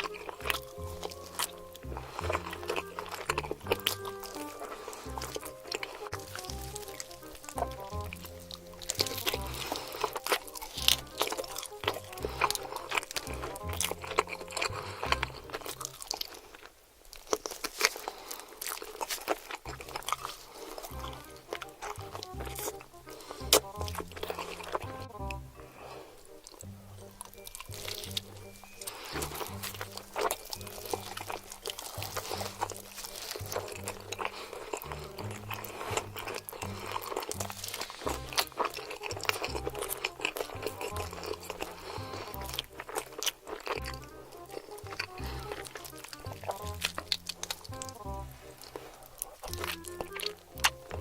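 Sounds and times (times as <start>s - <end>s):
background music with bass line: 0.0s - 15.9s, 20.9s - 48.9s, 49.5s - 51.0s
crunchy chewing of chicken: 0.0s - 51.0s.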